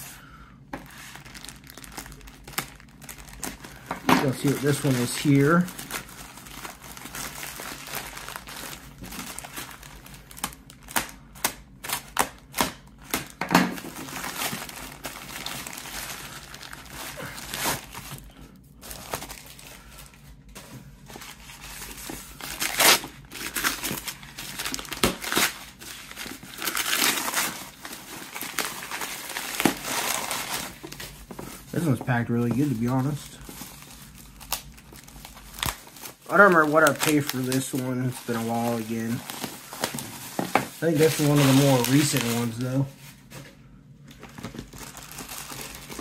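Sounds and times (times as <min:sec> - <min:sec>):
paper wrapping torn and crumpled: 0:00.8 - 0:43.1, 0:44.2 - 0:46.0
crinkling: 0:00.8 - 0:43.4, 0:44.1 - 0:46.0
plastic bag tearing: 0:00.9 - 0:20.2, 0:21.1 - 0:42.9, 0:44.4 - 0:46.0.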